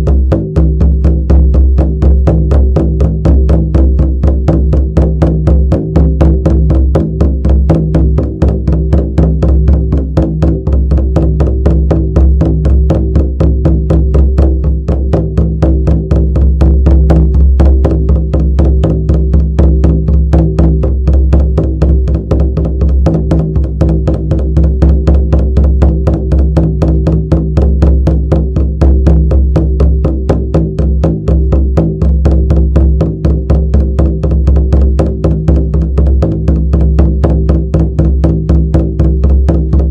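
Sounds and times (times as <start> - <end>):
drum beaten in fast rhythm: 0.0 - 39.9.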